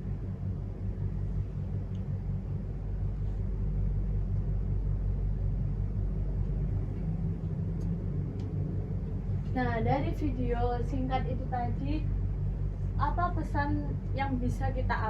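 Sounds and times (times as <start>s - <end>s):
faint steady hum: 0.0s - 15.0s
low rumble: 0.0s - 15.0s.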